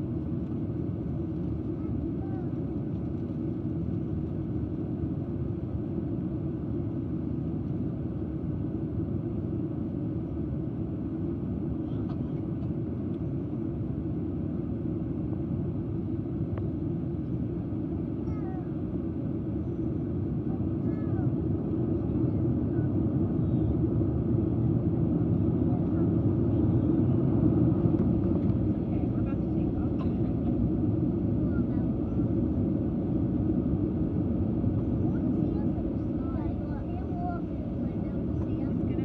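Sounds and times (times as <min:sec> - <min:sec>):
jet engines rumbling in cabin: 0:00.0 - 0:39.0.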